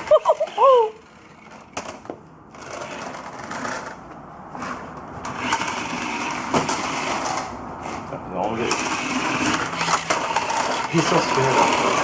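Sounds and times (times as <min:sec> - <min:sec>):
toy car electric motor whirring: 0:00.0 - 0:04.0, 0:04.6 - 0:12.0.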